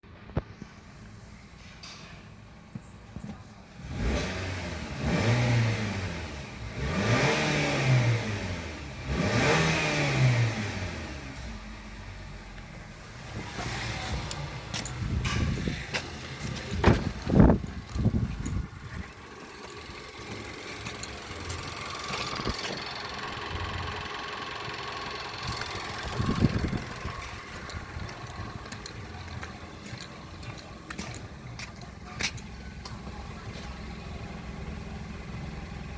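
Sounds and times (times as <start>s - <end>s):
car engine revving and idling: 3.7s - 35.9s.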